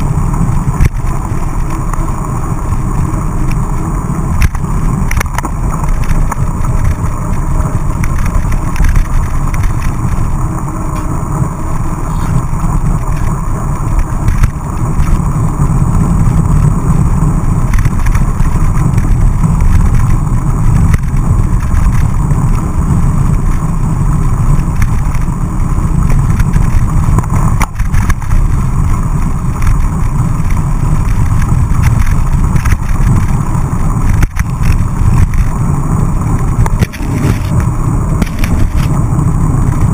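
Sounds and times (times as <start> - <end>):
bike knocking over bumps: 0.0 - 39.0
bike tyres rumbling on wet road: 0.0 - 39.9
wind rush: 0.0 - 39.9.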